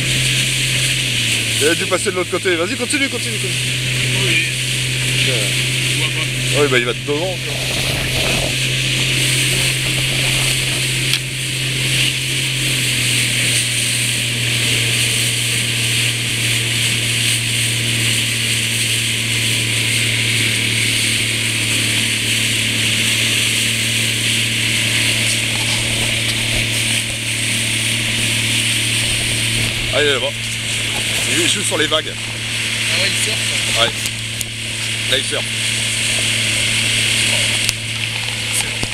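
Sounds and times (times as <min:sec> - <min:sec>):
motorboat engine droning: 0:00.0 - 0:38.9
wind: 0:00.0 - 0:38.9.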